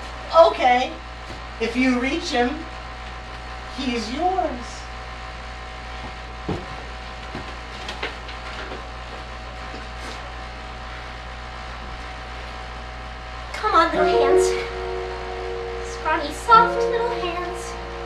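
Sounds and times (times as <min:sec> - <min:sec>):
room tone hum: 0:00.0 - 0:18.0.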